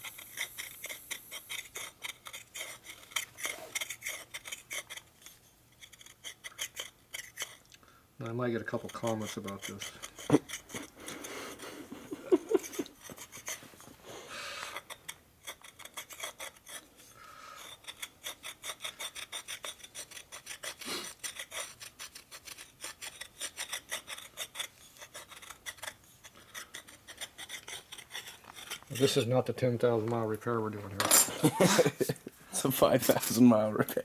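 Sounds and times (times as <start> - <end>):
file rasping on metal: 0.0 - 7.6, 8.4 - 13.7, 14.7 - 29.3.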